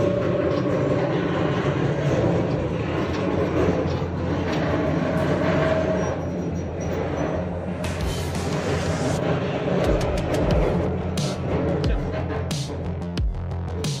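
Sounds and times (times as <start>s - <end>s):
heavy mining machine rumbling: 0.0s - 13.8s
sustained mechanical whine: 0.0s - 14.0s.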